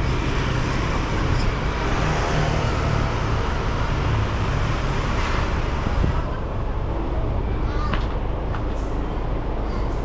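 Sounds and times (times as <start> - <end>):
road noise: 0.0 - 10.0
vehicle engines humming: 0.0 - 10.0.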